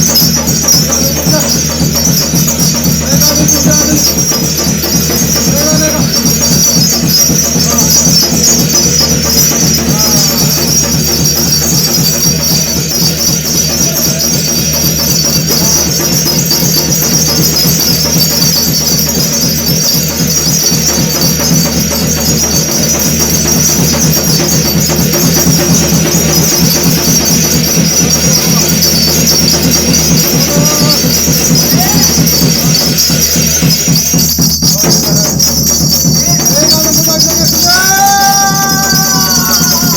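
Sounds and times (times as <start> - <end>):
drum beaten in fast rhythm: 0.0 - 39.9
hand cymbals shimmering: 0.0 - 39.9.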